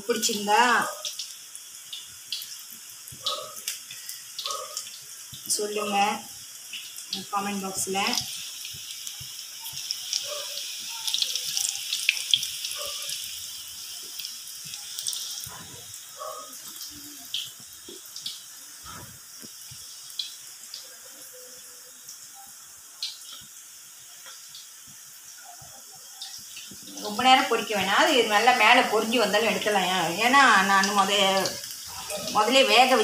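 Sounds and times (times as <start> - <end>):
meat deep-frying in hot oil: 0.0 - 33.0.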